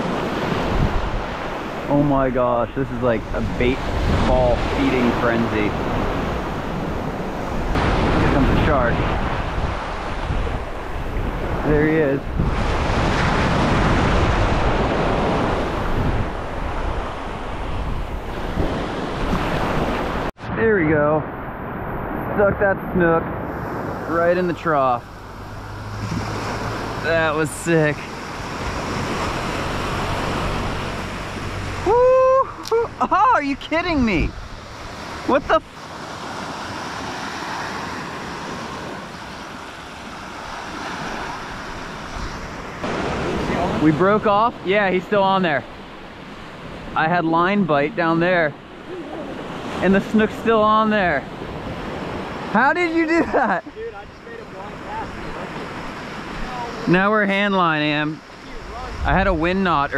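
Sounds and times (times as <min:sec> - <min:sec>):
wind buffeting microphone: 0:00.0 - 0:47.0, 0:58.2 - 0:59.9
surf breaking on beach: 0:00.0 - 0:59.9.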